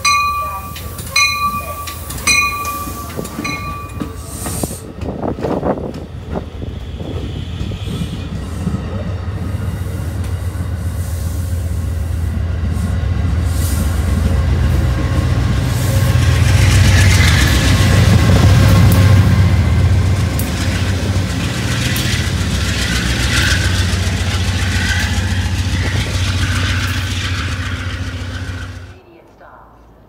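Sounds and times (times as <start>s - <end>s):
train wheels rumbling on rails: 0.0s - 29.4s
diesel locomotive engine hum: 0.0s - 30.0s.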